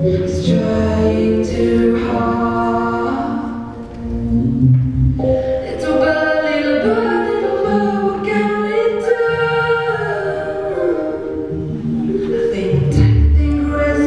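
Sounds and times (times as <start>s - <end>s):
voices singing in harmony: 0.0s - 4.2s, 5.3s - 14.0s.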